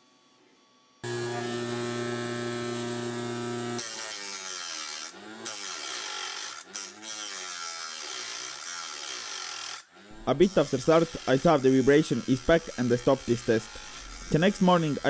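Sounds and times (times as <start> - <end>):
disc grinding metal pipe: 1.0 - 15.0
saw motor whining: 1.0 - 15.0.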